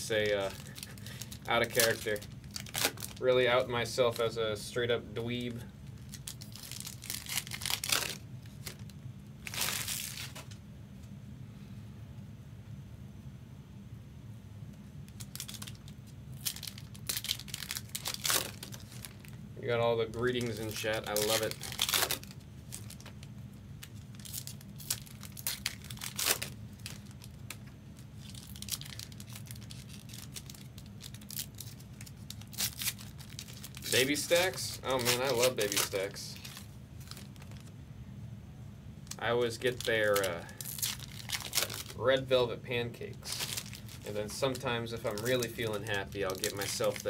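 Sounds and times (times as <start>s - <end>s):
foil wrapper crinkling: 0.0s - 4.4s, 5.2s - 10.6s, 15.1s - 37.7s, 39.0s - 42.4s, 43.1s - 47.0s.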